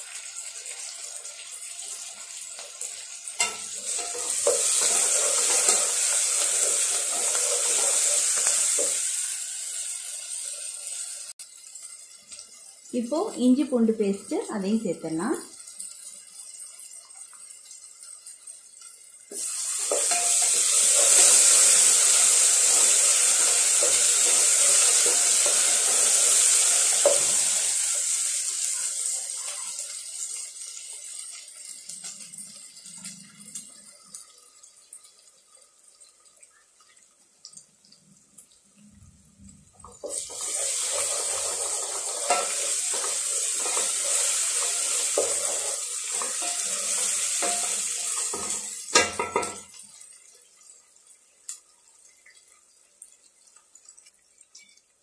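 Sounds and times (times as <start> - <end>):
vegetables sizzling in oil: 0.0 - 55.0.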